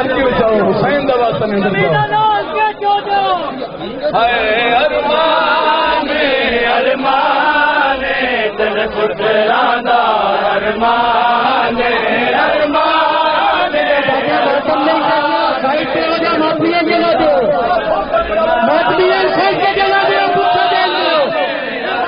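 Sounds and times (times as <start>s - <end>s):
crowd of men chanting: 1.8s - 22.0s.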